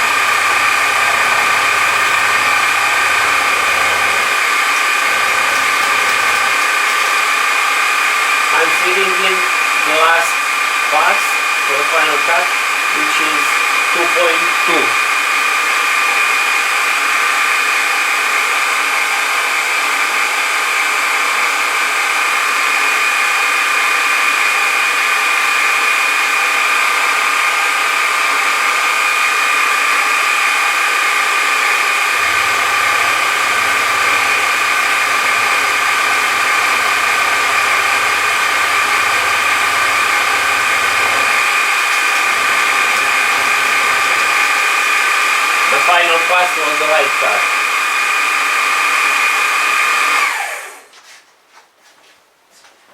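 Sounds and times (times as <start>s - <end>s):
machine tool high whine: 0.0s - 50.9s.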